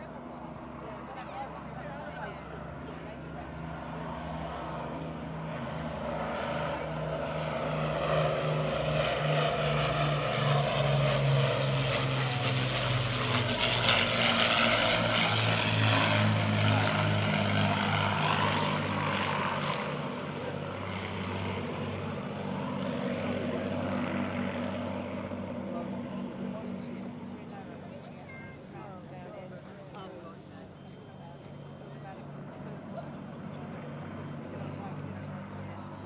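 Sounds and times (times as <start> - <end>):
propeller plane flying past: 0.0 - 36.0.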